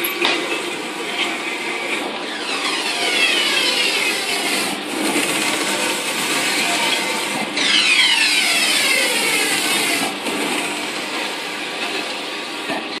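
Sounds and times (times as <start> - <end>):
printer carriage whirring: 0.0 - 13.0.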